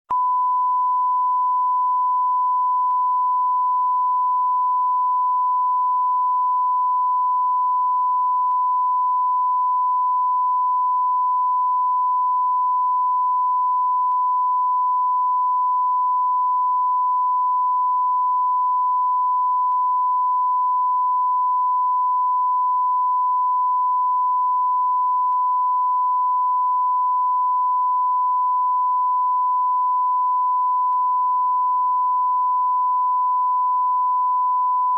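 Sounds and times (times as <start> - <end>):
steady pure-tone beep: 0.0 - 34.9.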